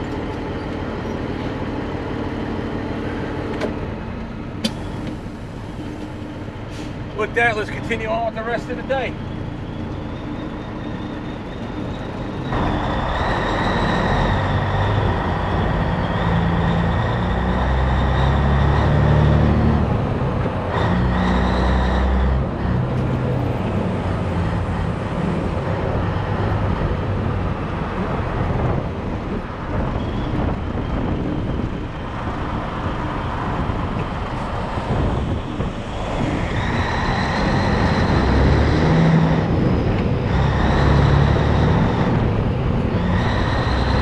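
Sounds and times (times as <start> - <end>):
diesel truck engine pulling away: 0.0 - 44.0.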